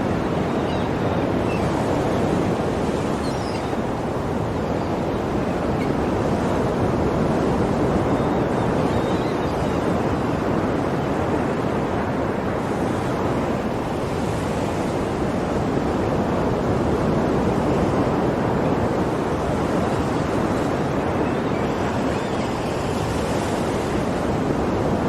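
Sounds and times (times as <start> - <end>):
ocean waves washing on shore: 0.0 - 25.0.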